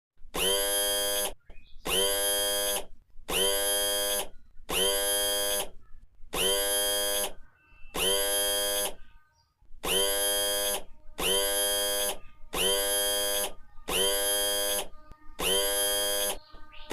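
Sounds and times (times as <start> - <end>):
harsh electronic buzz: 0.3 - 5.8, 6.4 - 9.2, 9.8 - 16.9.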